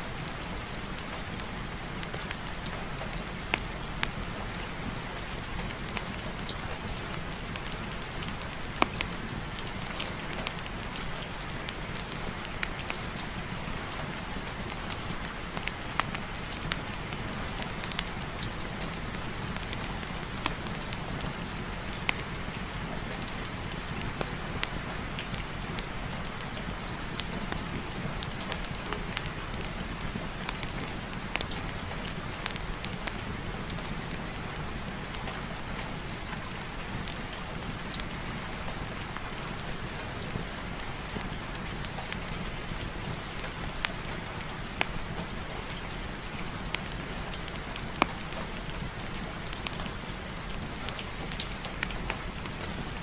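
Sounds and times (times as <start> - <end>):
fireplace fire crackling: 0.0 - 53.0
steady rain hiss: 0.0 - 53.0.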